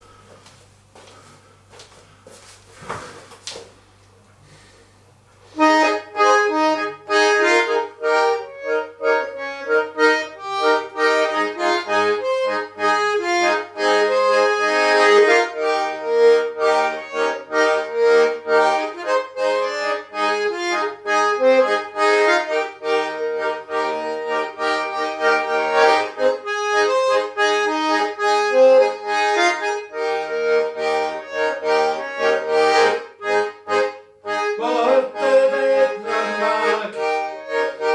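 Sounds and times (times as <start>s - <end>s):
accordion playing lively folk tune: 5.4s - 37.9s.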